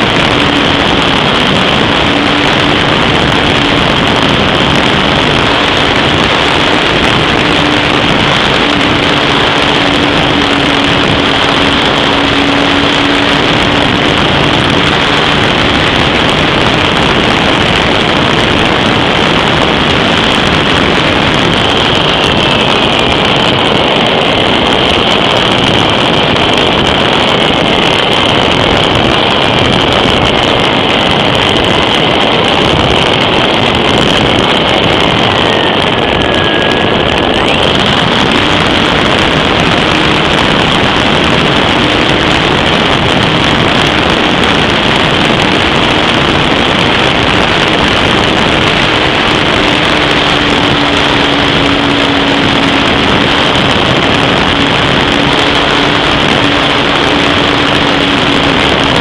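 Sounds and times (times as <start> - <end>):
aircraft motor: 0.0 - 59.0
thin wavering whine: 0.0 - 59.0
wind rushing over microphone: 0.0 - 59.0.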